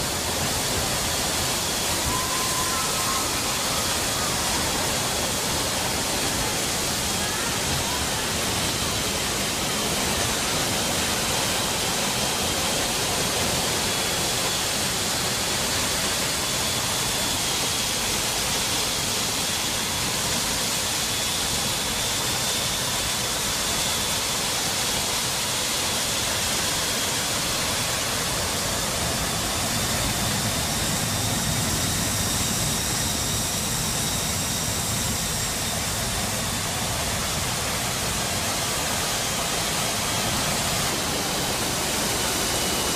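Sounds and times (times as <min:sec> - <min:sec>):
faint high engine whine: 0:00.0 - 0:42.9
jet engines roaring: 0:00.0 - 0:42.9
rush of wind: 0:00.0 - 0:42.9.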